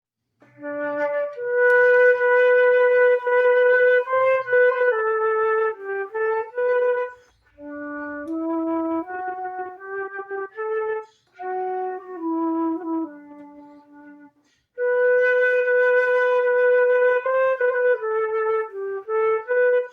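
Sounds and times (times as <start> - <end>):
solo flute melody: 0.4 - 19.9.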